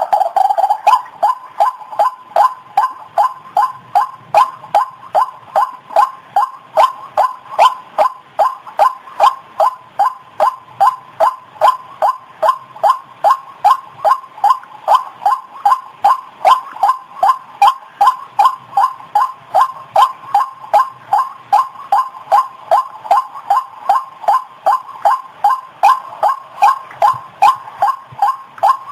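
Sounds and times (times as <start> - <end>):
bird croaking call recording: 0.0 - 28.9.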